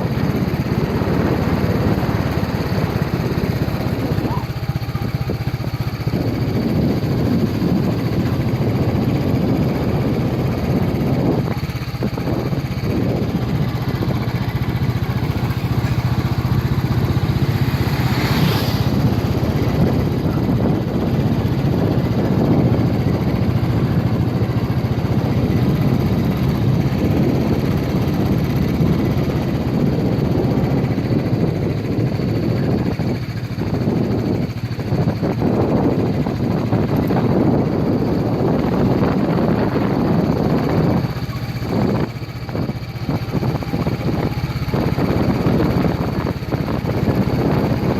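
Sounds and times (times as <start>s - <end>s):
motorcycle engine running: 0.0s - 47.9s
road and wind noise: 0.0s - 47.9s.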